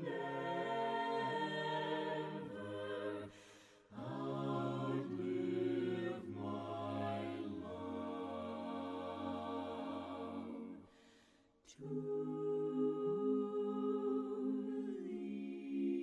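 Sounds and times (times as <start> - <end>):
soft choir-like background music: 0.0 - 16.0.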